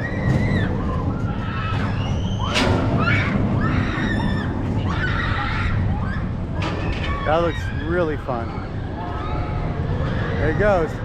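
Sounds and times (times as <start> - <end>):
crowd voices: 0.0 - 11.0
low rumble: 0.0 - 11.0.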